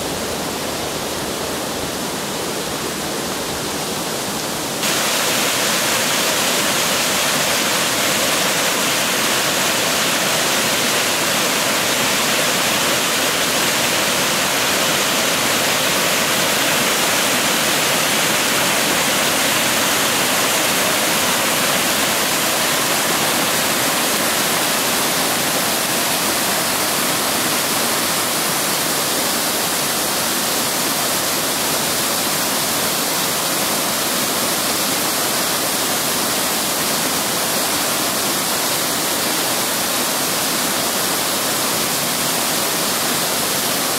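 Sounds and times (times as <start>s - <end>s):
waterfall rushing over rocks: 0.0s - 43.9s.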